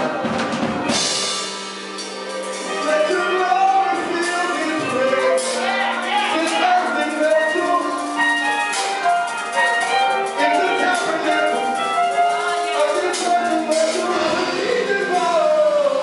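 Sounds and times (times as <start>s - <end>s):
drum kit: 0.0s - 16.0s
keyboard chords: 0.0s - 16.0s.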